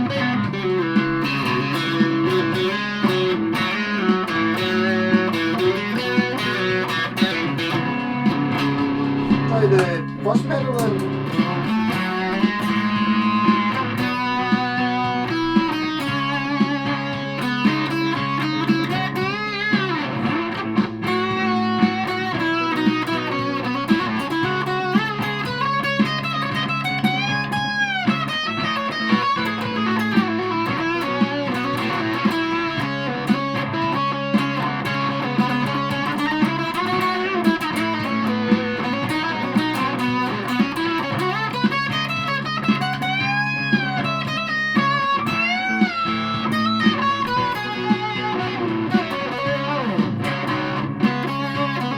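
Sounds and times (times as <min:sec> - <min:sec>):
fuzz electric guitar lead: 0:00.0 - 0:51.9
regular beat: 0:00.0 - 0:51.9.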